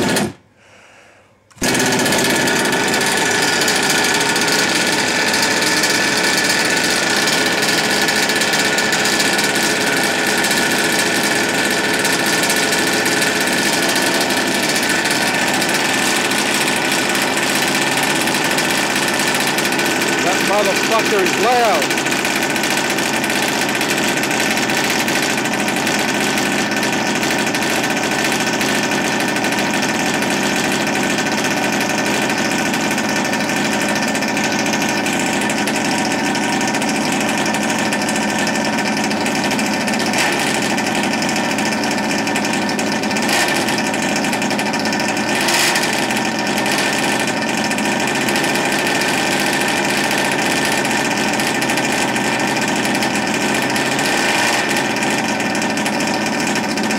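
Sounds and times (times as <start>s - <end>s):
two-stroke engine idling loudly: 0.0s - 0.4s, 1.6s - 56.9s.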